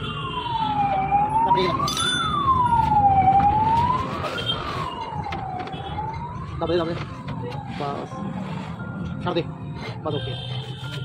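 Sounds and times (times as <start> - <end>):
siren wailing: 0.0 - 9.0.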